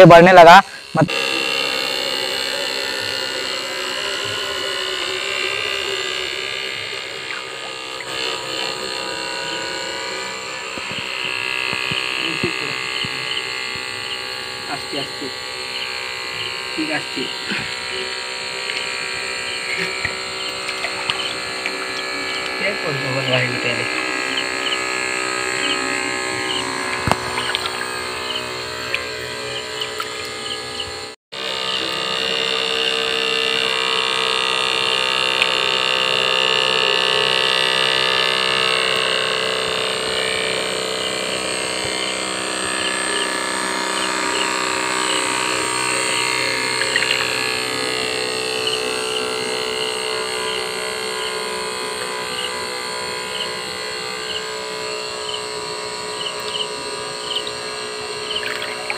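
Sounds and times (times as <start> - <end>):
toy motor whining: 0.0 - 58.9.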